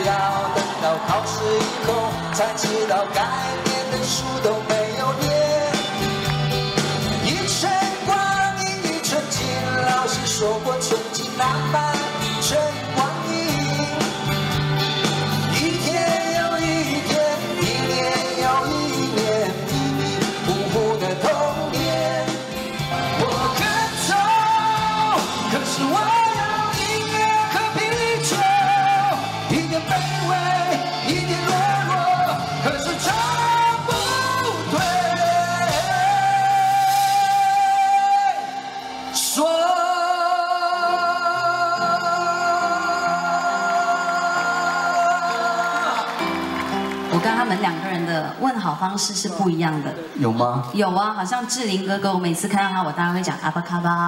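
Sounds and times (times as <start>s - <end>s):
man singing: 0.0s - 46.4s
live rock band: 0.0s - 51.8s
acoustic and electric guitars: 0.0s - 53.5s.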